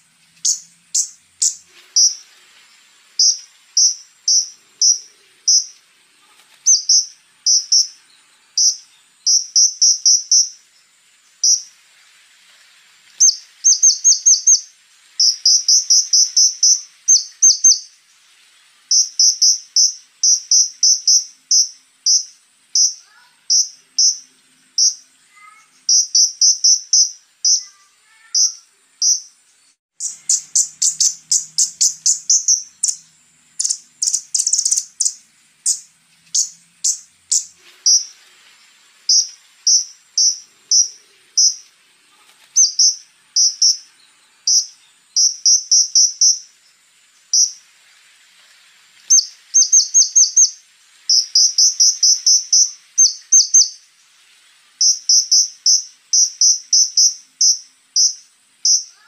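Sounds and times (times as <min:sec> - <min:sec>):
songbird singing sharp chips: 0:00.0 - 0:11.9, 0:13.0 - 0:47.7, 0:49.0 - 0:53.9, 0:54.8 - 0:59.0
faint high insect-like tone: 0:00.0 - 0:59.0.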